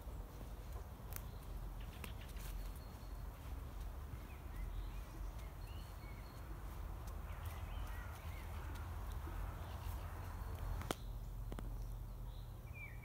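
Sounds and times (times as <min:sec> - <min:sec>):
footsteps on dirt path: 0:00.0 - 0:11.8
small birds chirping: 0:00.0 - 0:13.0.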